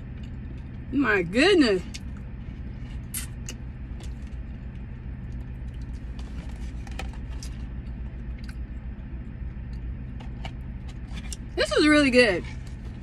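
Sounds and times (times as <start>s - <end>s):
car idling hum: 0.0s - 13.0s.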